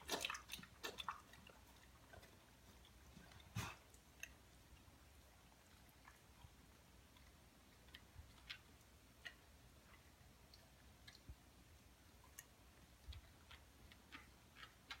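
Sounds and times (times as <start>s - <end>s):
dog chewing at water: 0.0s - 15.0s.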